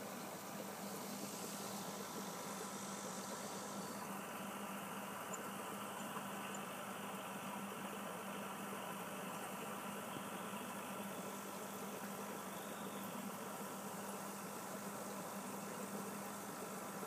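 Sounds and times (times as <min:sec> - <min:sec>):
aquarium pump motor hum: 0:00.0 - 0:17.0
faint hiss: 0:00.0 - 0:17.0.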